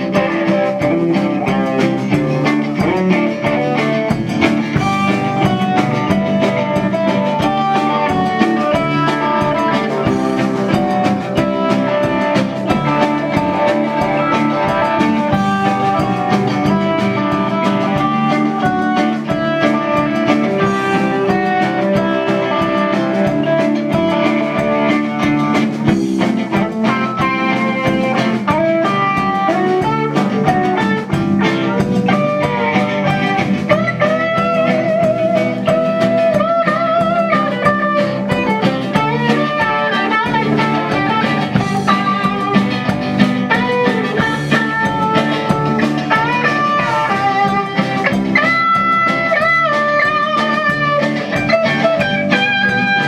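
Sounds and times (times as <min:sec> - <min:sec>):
drum kit: 0:00.0 - 0:53.0
electric guitar lead lines: 0:00.0 - 0:53.0.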